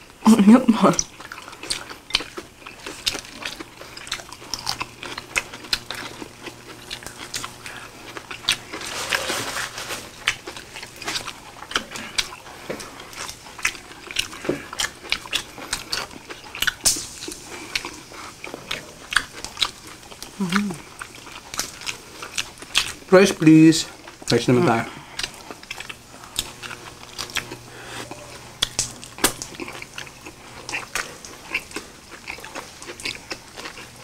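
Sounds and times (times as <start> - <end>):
crunching while eating: 0.8 - 34.0
chewing and lip smacking: 0.9 - 8.8, 10.2 - 24.4, 25.0 - 34.0.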